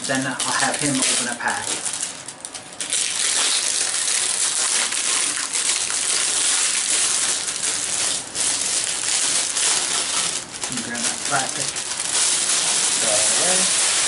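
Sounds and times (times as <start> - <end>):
plastic shrink-wrap crinkling: 0.0 - 14.0.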